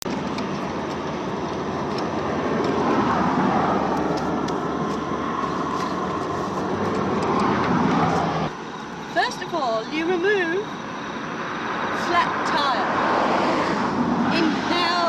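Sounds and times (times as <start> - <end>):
vehicle and road noise: 0.0 - 15.0.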